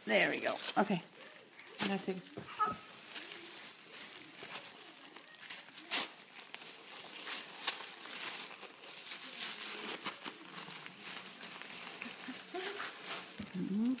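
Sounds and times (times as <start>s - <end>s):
tissue paper crumpling and rustling: 0.0s - 14.0s.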